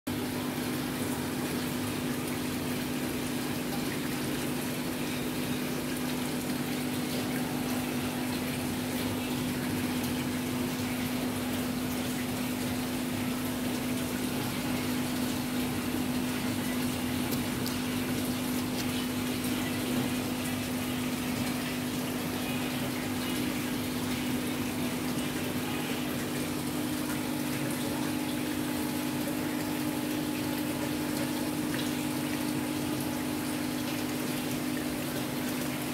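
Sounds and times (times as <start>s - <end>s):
aquarium pump humming: 0.1s - 35.9s
water bubbling and splashing: 0.1s - 35.9s.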